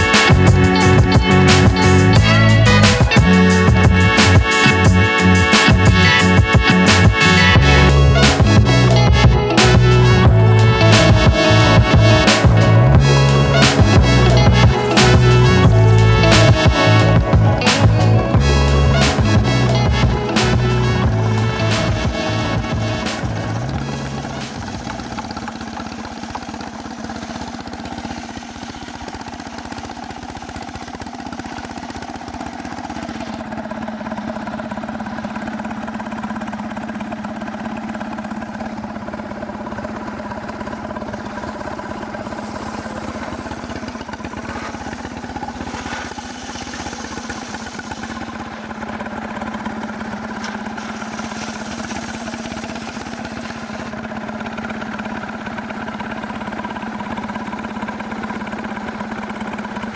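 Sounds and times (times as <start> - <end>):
chainsaw engine running at high revs: 0.0 - 59.9.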